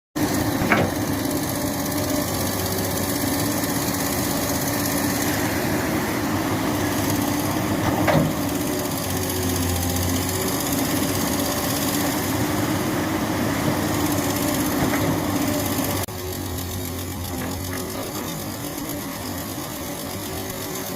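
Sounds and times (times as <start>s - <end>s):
excavator diesel engine running: 0.2s - 20.9s.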